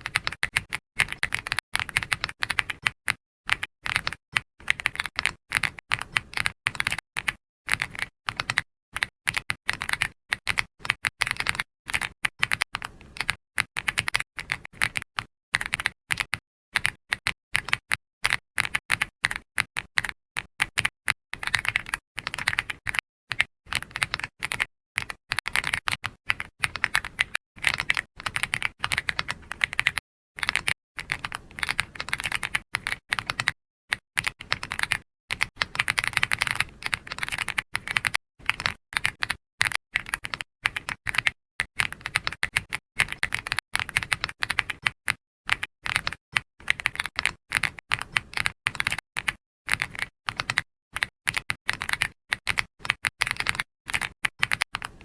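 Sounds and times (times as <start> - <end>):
computer keyboard typing: 0.0 - 55.0.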